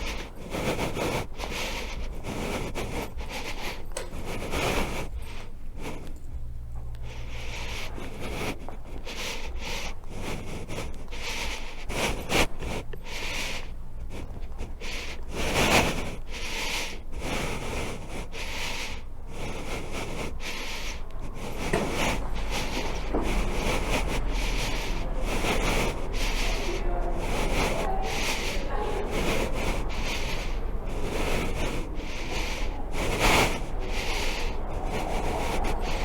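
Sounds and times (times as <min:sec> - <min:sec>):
faint low hum: 0:00.0 - 0:36.0
rubbing and rustling: 0:00.0 - 0:36.0.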